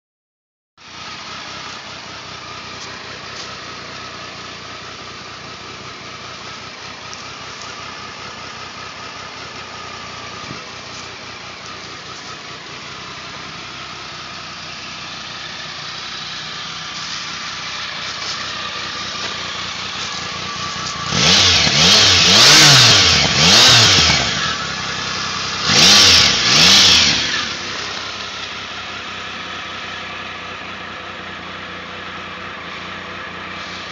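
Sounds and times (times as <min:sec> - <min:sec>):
motorcycle engine idling: 0:00.8 - 0:33.9
engine revving in throttle blips: 0:01.1 - 0:30.3.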